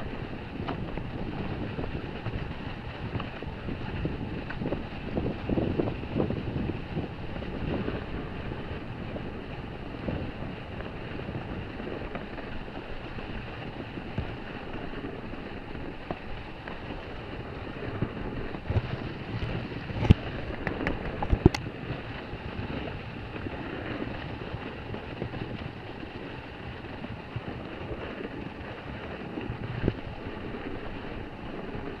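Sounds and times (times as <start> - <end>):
snow rushing under a snowboard: 0.0 - 32.0
wind on microphone: 0.0 - 32.0.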